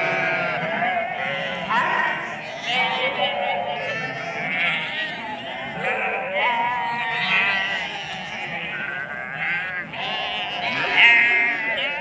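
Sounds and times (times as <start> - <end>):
sheep bleating: 0.0 - 12.0.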